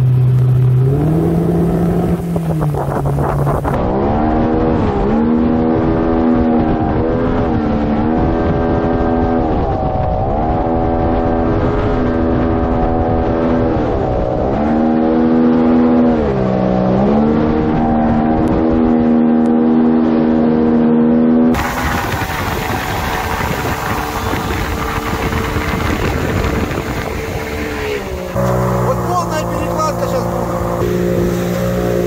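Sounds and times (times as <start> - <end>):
outboard motor revving: 0.0 - 32.0
wind and water rushing: 0.8 - 20.4, 21.5 - 32.0.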